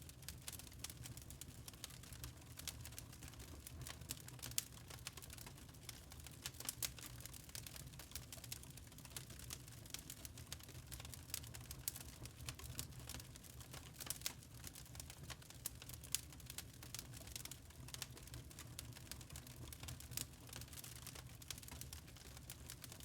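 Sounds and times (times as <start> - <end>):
low rumble of flames: 0.0 - 23.0
logs crackling and popping: 0.1 - 23.0.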